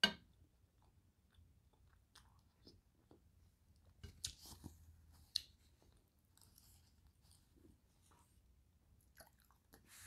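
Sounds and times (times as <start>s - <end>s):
soft chewing: 0.3s - 10.0s.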